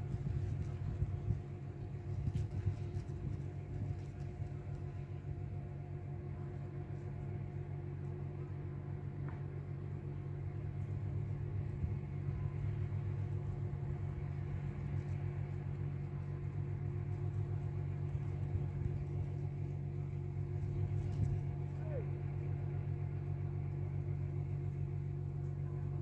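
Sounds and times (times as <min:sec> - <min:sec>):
constant low hum: 0:00.0 - 0:26.0
low mechanical rumble: 0:00.0 - 0:26.0.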